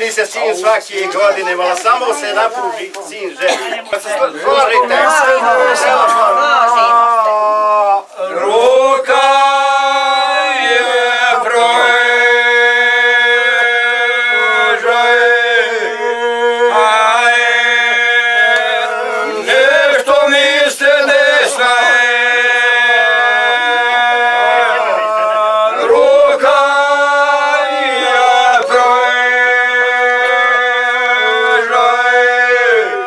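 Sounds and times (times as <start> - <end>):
men singing unaccompanied: 4.1 - 33.0.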